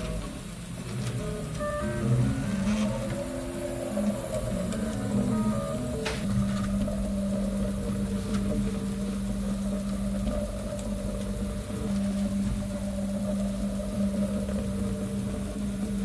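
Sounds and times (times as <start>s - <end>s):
fan-like hiss: 0.0s - 16.0s
printer motors humming: 0.0s - 16.0s.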